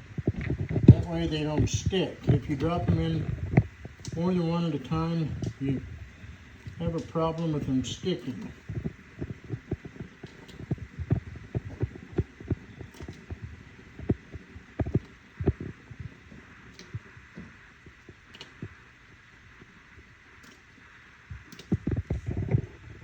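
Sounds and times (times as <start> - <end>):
broth bubbling: 0.0 - 23.0
steady hiss: 0.0 - 23.0.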